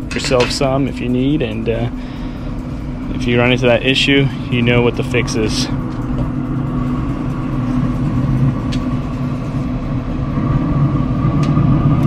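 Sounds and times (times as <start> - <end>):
mechanical hum with low drone: 0.0 - 12.0.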